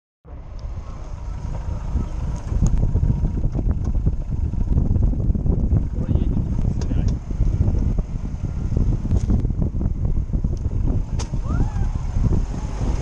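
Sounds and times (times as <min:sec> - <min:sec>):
engine and drivetrain rumble: 0:00.2 - 0:13.0.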